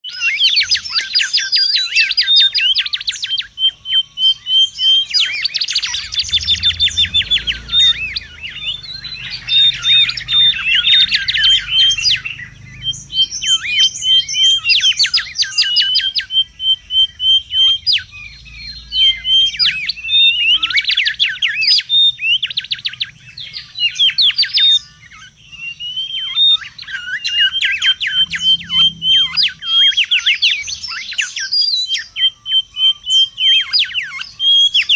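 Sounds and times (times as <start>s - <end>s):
bird singing whistled notes: 0.0s - 34.9s.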